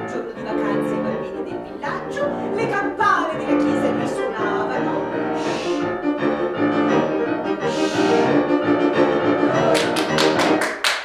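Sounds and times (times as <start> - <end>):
piano playing sustained notes: 0.0 - 10.8.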